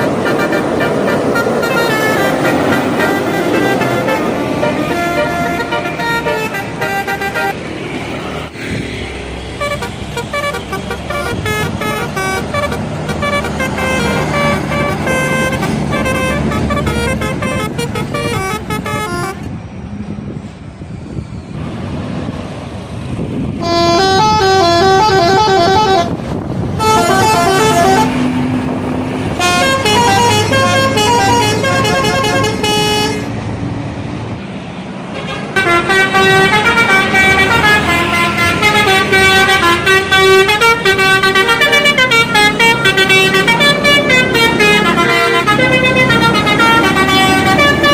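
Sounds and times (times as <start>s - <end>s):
multi-tone air horns playing tunes: 0.0s - 7.6s, 9.6s - 19.4s, 23.6s - 28.4s, 29.3s - 33.3s, 35.1s - 47.9s
bus engine running: 0.0s - 47.9s.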